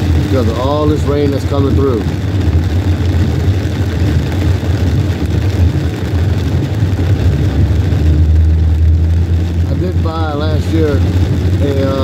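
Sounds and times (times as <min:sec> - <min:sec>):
engine and tyre rumble: 0:00.0 - 0:12.0
tyres hissing on wet pavement: 0:00.0 - 0:12.0.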